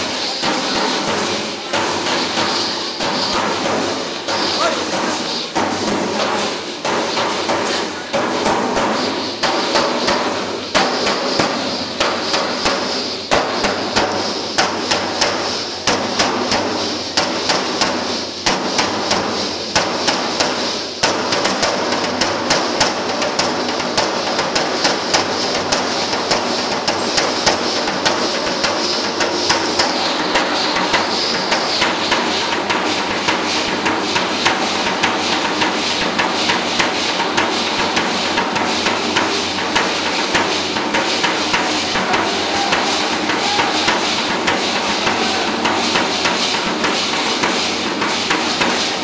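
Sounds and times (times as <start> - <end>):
shaking rattle hiss: 0.0 - 49.0
sharp percussion strikes: 0.0 - 49.0.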